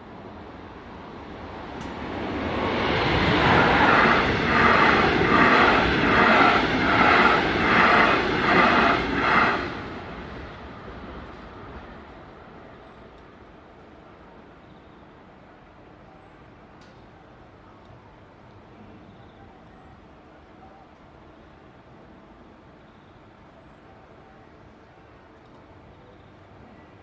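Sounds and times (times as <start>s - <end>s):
train passing with clatter: 0.0s - 27.0s.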